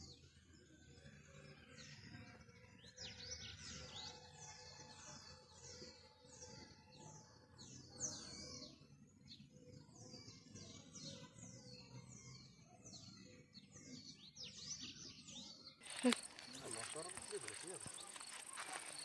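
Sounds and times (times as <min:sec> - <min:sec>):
faint bird song: 0:00.0 - 0:19.0.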